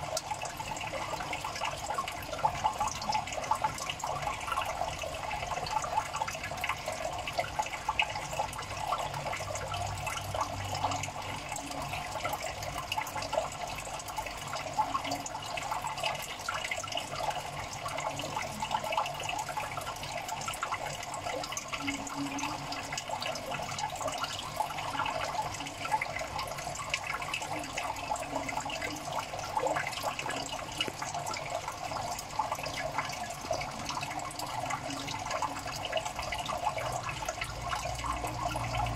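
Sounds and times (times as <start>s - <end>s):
water running and bubbling: 0.0s - 38.9s.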